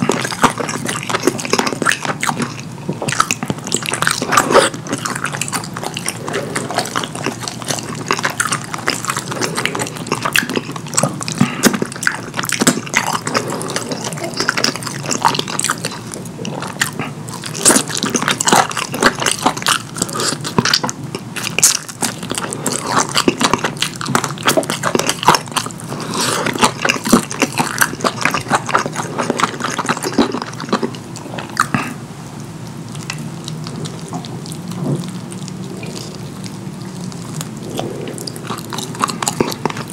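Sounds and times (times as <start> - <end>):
wet sticky chewing: 0.0 - 39.9.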